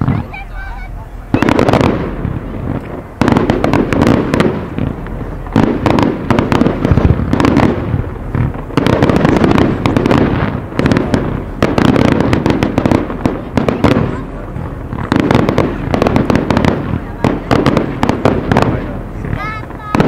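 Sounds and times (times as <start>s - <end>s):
fireworks bangs and crackle: 0.0s - 20.0s.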